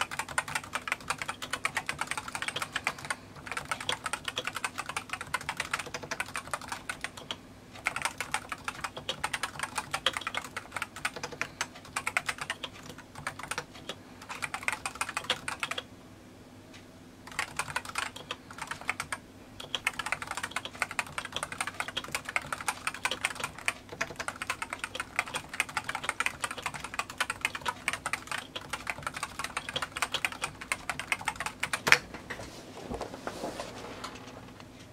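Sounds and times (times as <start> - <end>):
keyboard typing: 0.0 - 15.9, 17.2 - 32.1.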